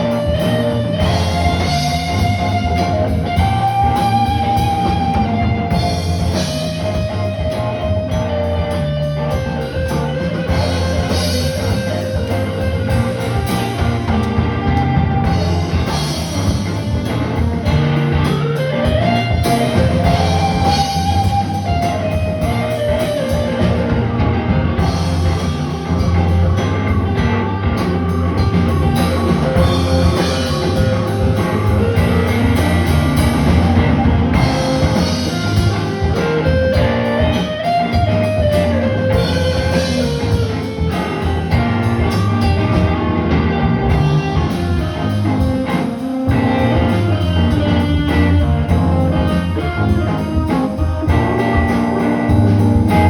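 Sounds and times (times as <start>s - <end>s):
lead guitar melody: 0.0s - 53.0s
rock band playing: 0.0s - 53.0s.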